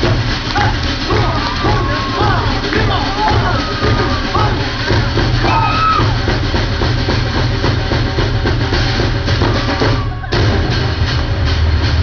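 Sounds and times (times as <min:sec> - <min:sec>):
fast drumming rhythm: 0:00.0 - 0:12.0
heavy low drum beat: 0:00.0 - 0:12.0.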